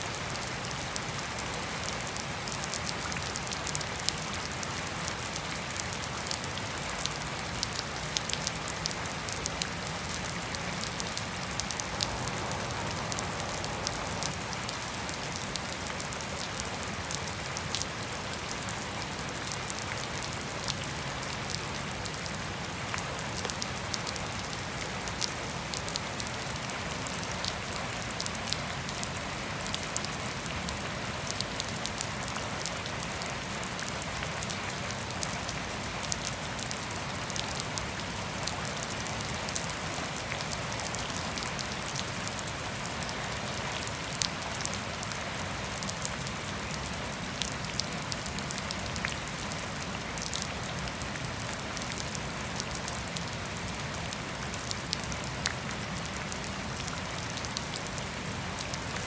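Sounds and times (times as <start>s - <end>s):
gentle rain on grass and pavement: 0.0s - 59.0s
raindrops ticking: 0.2s - 59.0s.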